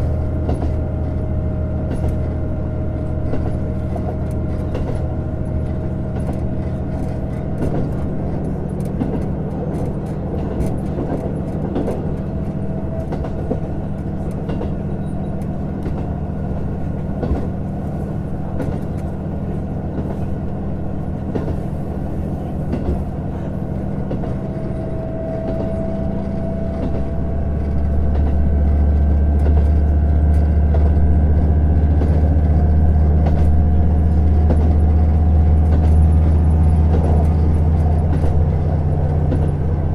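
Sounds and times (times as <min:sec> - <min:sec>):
diesel engine drone: 0:00.0 - 0:39.9
rail rumble: 0:00.0 - 0:39.9.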